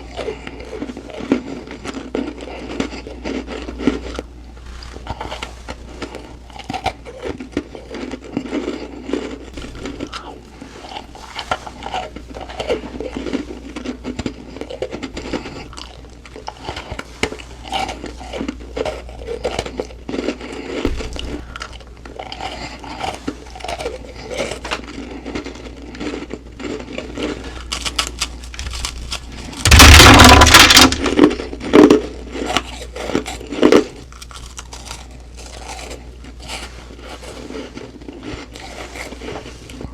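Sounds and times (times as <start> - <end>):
chewing and crunching frost: 0.0 - 39.9.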